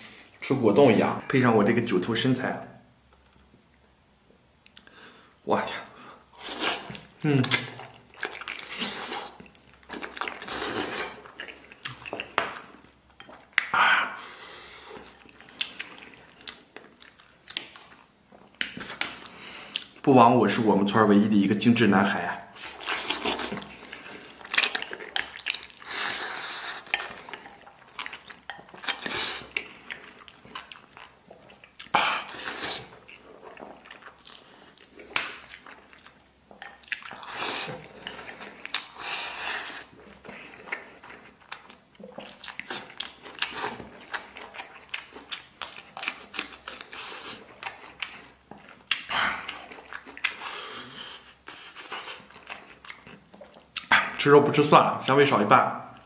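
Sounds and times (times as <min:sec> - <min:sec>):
wet eating noises: 0:04.6 - 0:56.0.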